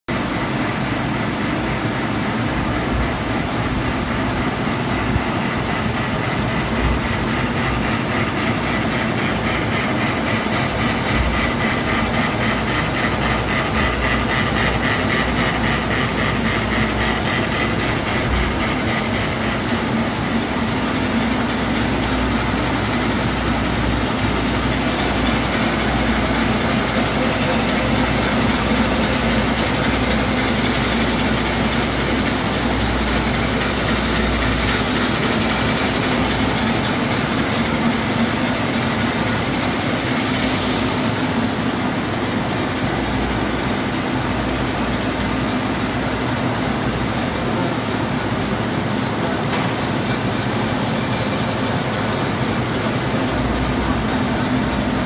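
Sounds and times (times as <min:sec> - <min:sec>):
printing press running: 0:00.1 - 0:55.0.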